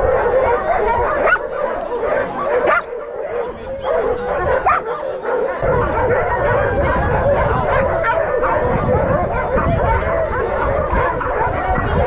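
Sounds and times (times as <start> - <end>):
dogs barking yipping and whining: 0.0 - 12.0.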